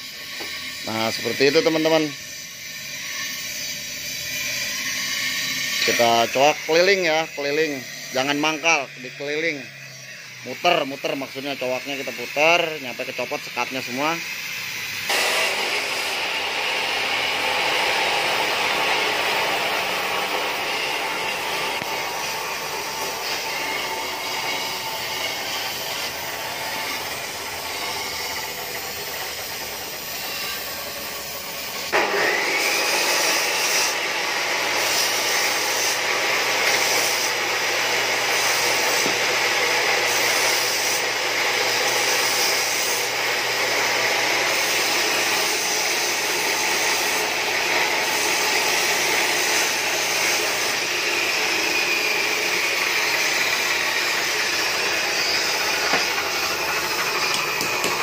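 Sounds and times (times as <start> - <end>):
welding torch hissing: 0.0 - 58.0.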